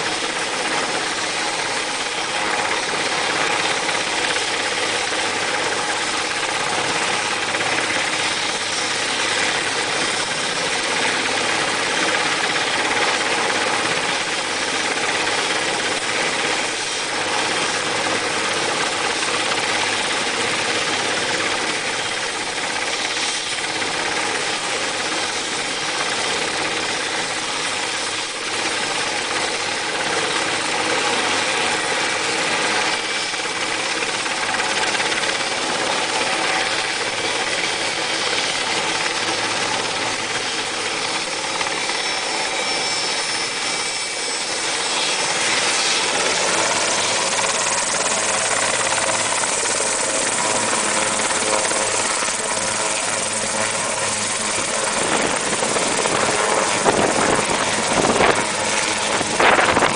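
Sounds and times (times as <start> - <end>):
helicopter engines and rotor: 0.0 - 59.9.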